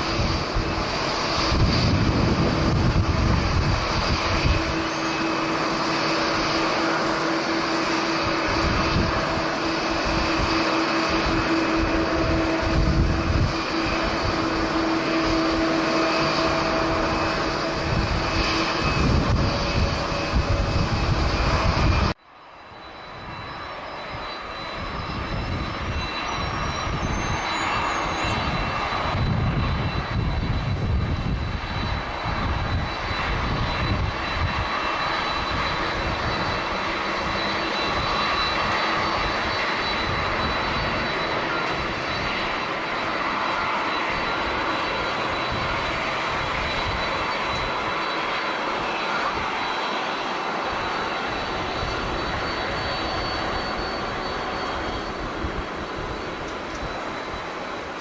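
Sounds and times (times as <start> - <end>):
wind buffeting microphone: 0.0 - 22.2, 23.1 - 58.0
jet engines running: 0.0 - 58.0.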